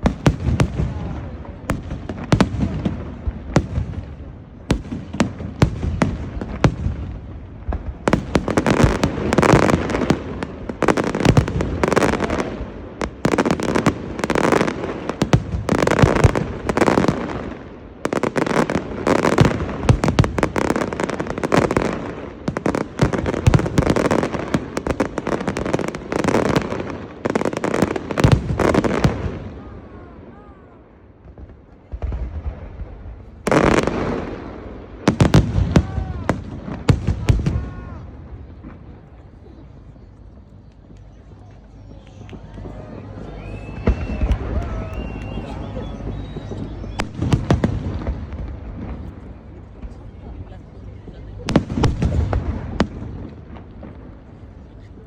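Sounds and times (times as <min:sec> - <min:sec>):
crackling explosions: 0:00.0 - 0:30.2, 0:31.1 - 0:41.0, 0:42.2 - 0:55.0
fireworks bursting: 0:00.0 - 0:30.4, 0:31.1 - 0:55.0.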